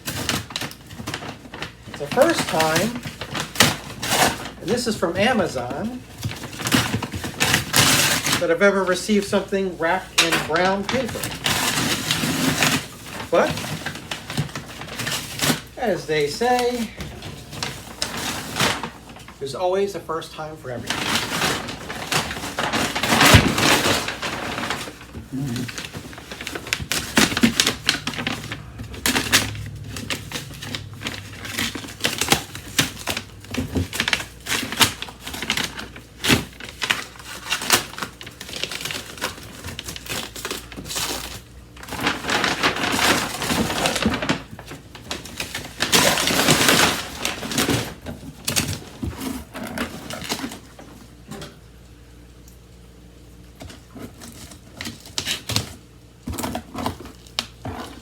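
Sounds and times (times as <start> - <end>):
paper tearing and crumpling: 0.0 - 19.6, 20.7 - 51.0, 53.8 - 58.0.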